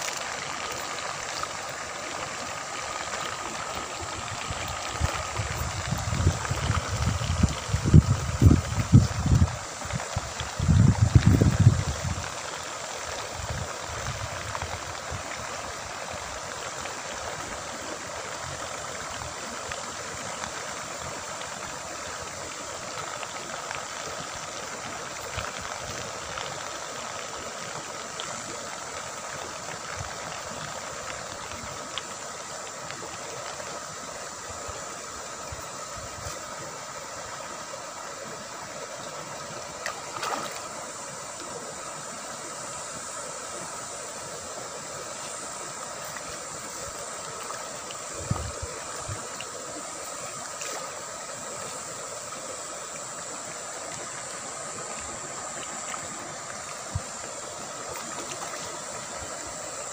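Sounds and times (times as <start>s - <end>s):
fish splashing and slurping: 0.0s - 59.9s.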